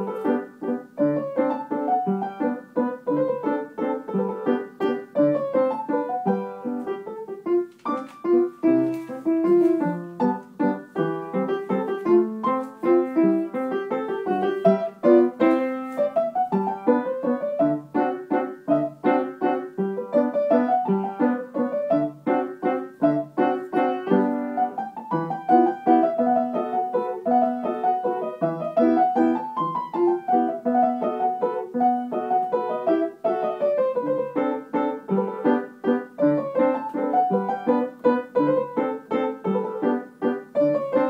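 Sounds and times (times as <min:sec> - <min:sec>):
piano tune: 0:00.0 - 0:41.0.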